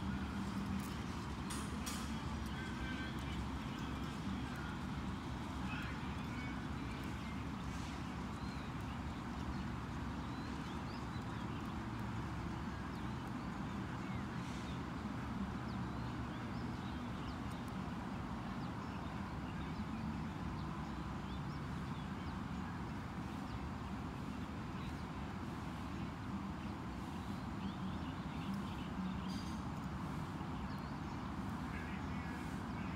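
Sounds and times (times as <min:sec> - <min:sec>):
outdoor background noise: 0:00.0 - 0:32.9.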